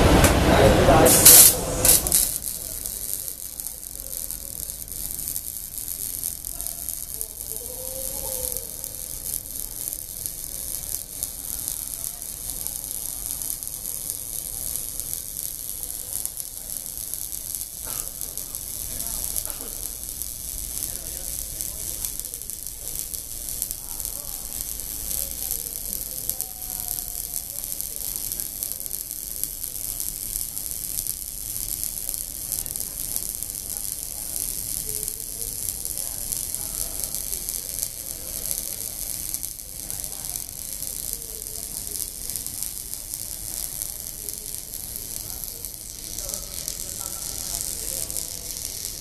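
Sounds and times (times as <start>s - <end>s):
electric arc welding crackling: 0.0s - 49.0s.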